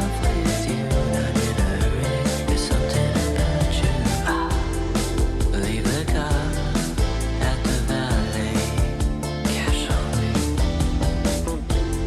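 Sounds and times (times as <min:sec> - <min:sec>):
pop song with vocals: 0:00.0 - 0:12.0.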